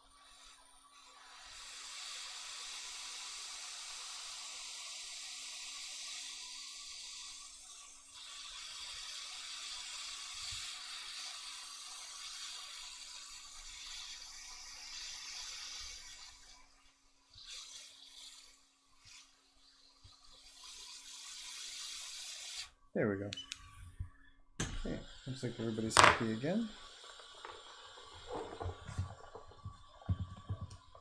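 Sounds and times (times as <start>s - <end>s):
hot air station hissing: 0.1s - 31.0s.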